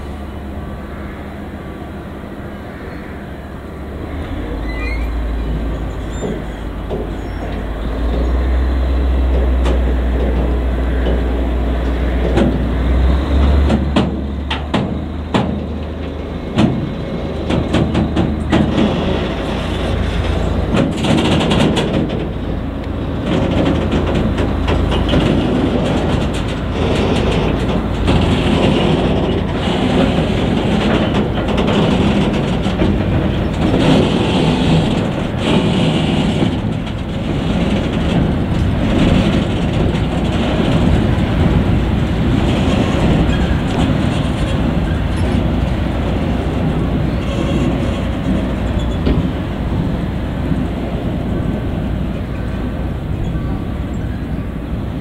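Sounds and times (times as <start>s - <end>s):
diesel locomotive engine droning: 0.0s - 55.0s
wagon wheels clacking over rail joints: 0.0s - 55.0s.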